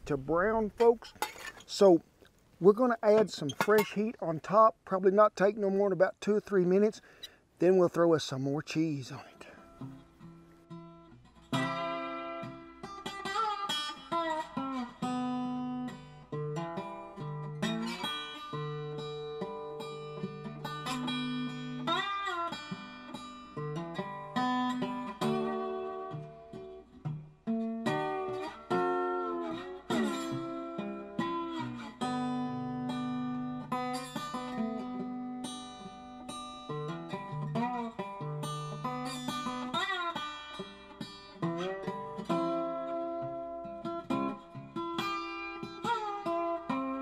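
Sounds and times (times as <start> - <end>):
acoustic guitar music: 0.0 - 47.0.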